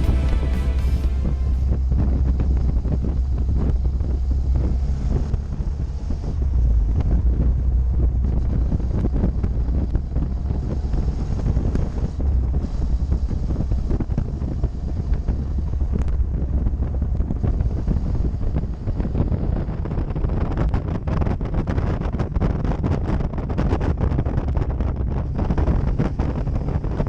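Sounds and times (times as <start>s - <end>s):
motorcycle engine rumble: 0.0s - 27.0s
wind buffeting microphone: 0.0s - 27.0s.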